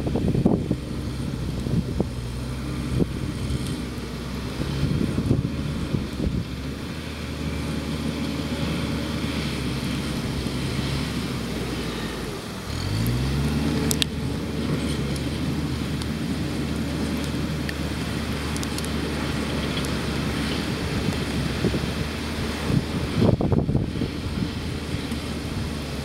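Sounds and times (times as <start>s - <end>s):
bulldozer diesel engine: 0.0s - 26.0s.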